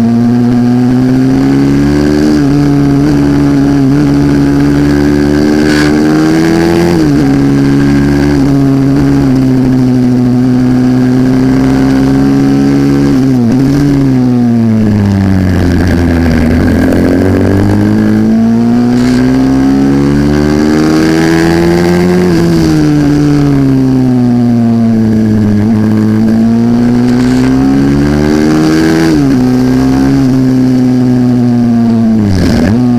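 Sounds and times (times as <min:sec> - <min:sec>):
minibike engine revving: 0:00.0 - 0:32.9.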